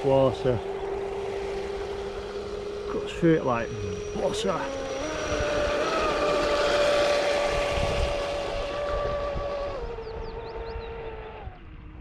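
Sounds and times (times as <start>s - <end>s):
electric boat motor whining: 0.0s - 12.0s.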